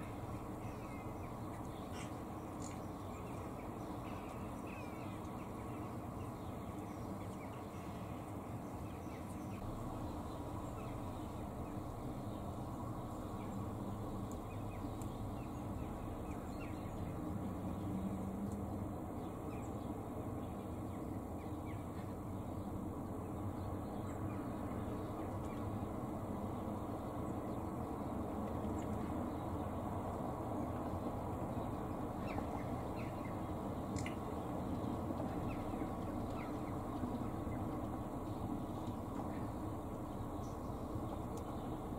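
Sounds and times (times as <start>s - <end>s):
low outdoor rumble: 0.0s - 41.9s.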